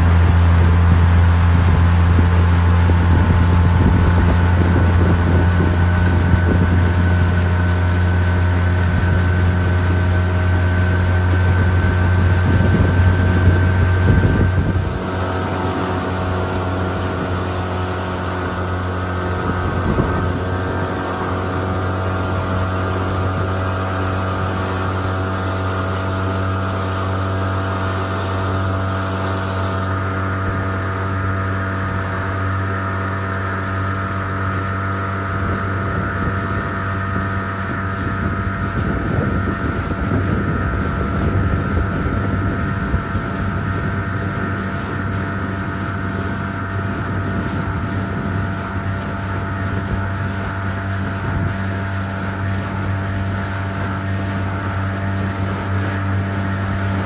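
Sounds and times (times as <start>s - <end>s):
outboard motor droning: 0.0s - 57.0s
wind and water rushing: 0.0s - 57.0s.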